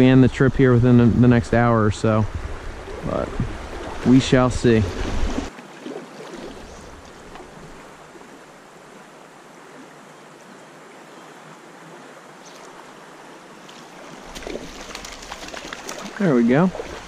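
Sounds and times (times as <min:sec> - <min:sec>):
stream rushing over riffles: 0:01.3 - 0:17.0.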